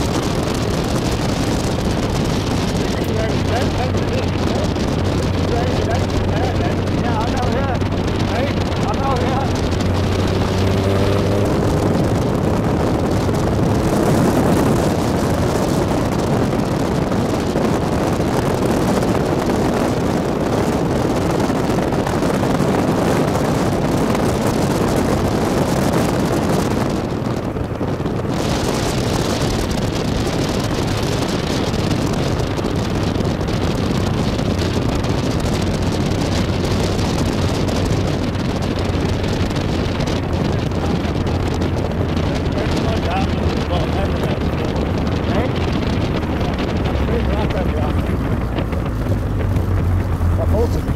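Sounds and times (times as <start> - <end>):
car engine drone: 0.0 - 50.9
road noise: 0.0 - 50.9
wind rushing over microphone: 0.0 - 50.9.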